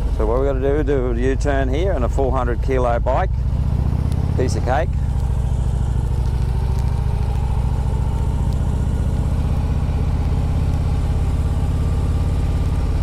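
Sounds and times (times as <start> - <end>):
motorcycle engine running low revs: 0.0 - 13.0.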